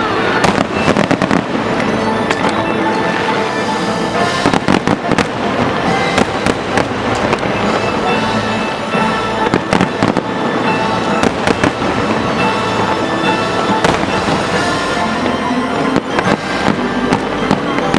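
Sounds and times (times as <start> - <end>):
fireworks bursting: 0.0 - 17.9
music playing: 0.0 - 17.9.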